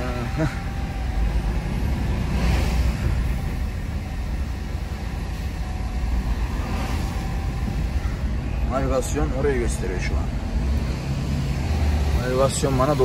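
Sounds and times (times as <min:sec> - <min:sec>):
car passing: 0:00.0 - 0:13.0
truck engine rumble: 0:00.0 - 0:13.0.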